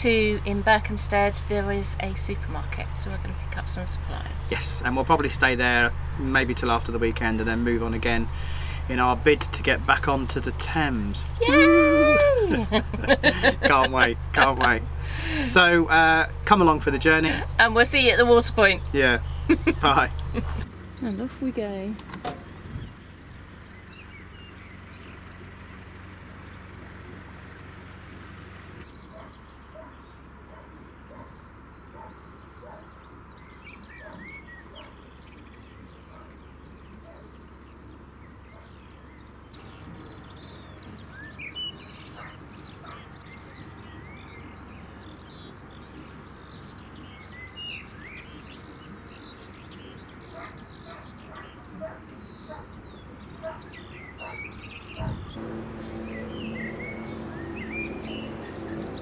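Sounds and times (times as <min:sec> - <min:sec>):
boat engine hum: 0:00.0 - 0:59.0
birds chirping and whistling: 0:07.3 - 0:26.6, 0:28.8 - 0:59.0.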